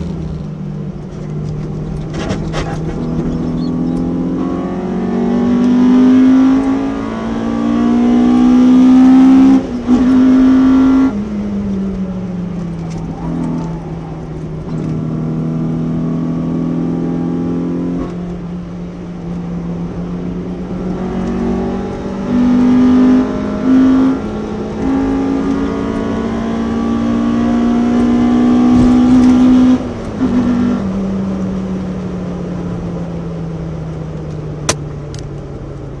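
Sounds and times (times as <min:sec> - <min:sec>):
car engine revving: 0:00.0 - 0:35.2.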